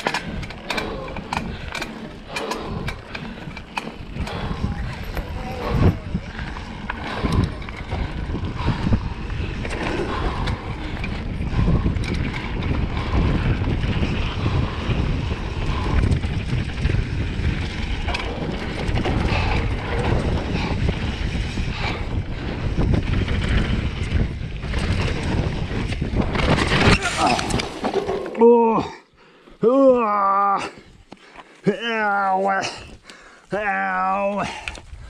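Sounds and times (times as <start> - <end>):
wind buffeting microphone: 0.0 - 27.8, 34.4 - 35.0
bike knocks and rattles: 0.0 - 28.4
tyres rolling on dirt: 0.0 - 28.5.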